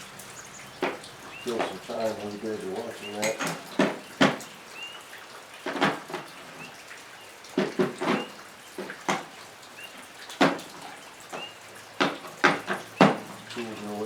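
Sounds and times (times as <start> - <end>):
rain on a metal roof: 0.0 - 14.0.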